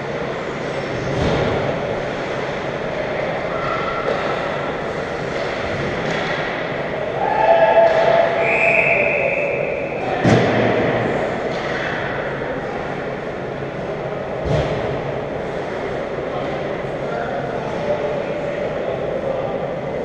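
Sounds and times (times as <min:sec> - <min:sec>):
skating and play noise: 0:00.0 - 0:20.0.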